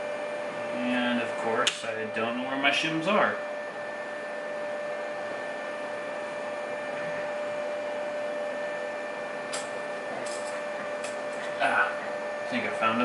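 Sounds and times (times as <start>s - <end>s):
constant high hum: 0.0s - 13.0s.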